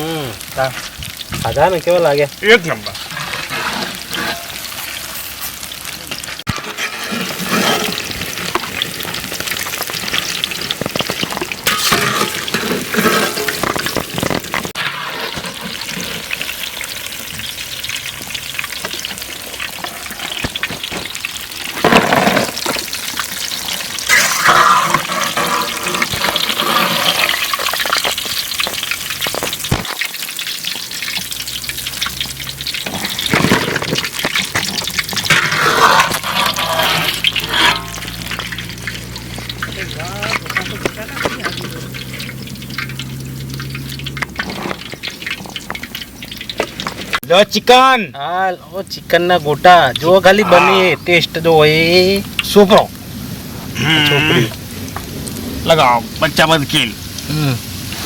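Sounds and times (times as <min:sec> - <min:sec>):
fritters deep-frying in oil: 0:00.0 - 0:58.0.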